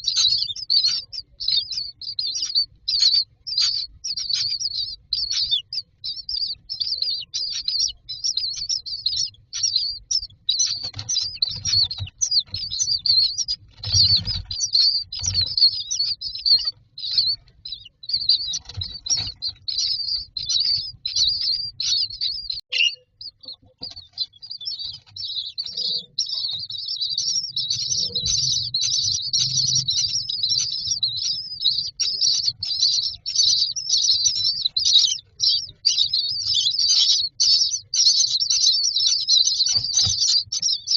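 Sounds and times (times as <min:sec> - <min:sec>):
nestlings chirping: 0:00.0 - 0:40.9.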